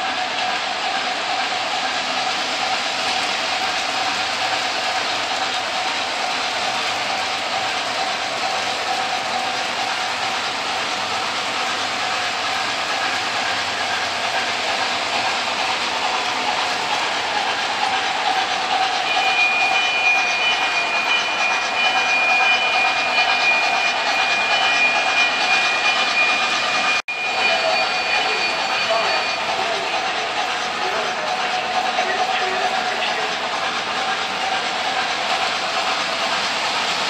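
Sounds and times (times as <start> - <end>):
model train wheels clattering: 0.0 - 37.0
steady high tone: 0.9 - 36.4.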